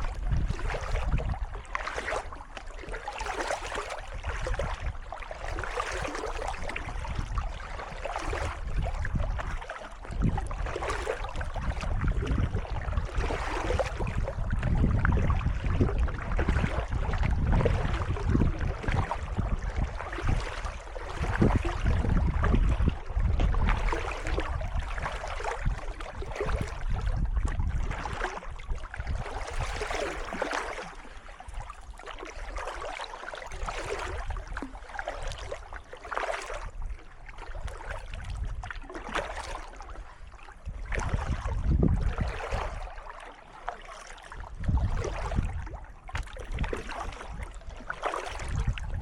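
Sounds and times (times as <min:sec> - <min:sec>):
paddle strokes splashing water: 0:00.0 - 0:49.0.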